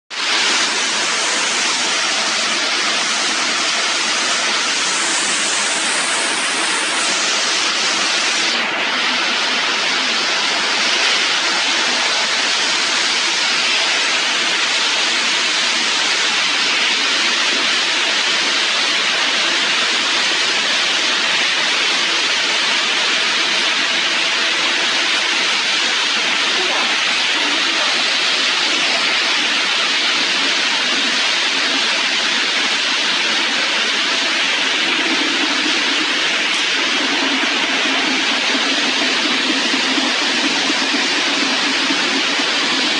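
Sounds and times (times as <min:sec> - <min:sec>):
production line machinery hum: 0:00.2 - 0:42.9.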